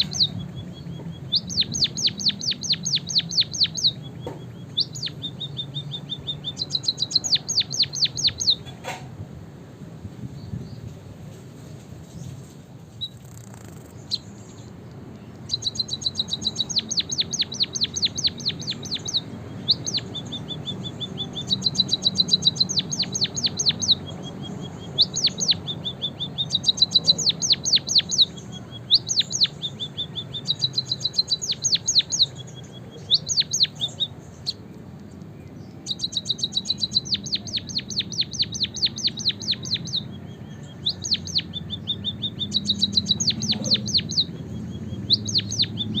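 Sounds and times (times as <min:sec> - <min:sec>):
finch singing trills: 0:00.0 - 0:09.0, 0:13.0 - 0:46.0.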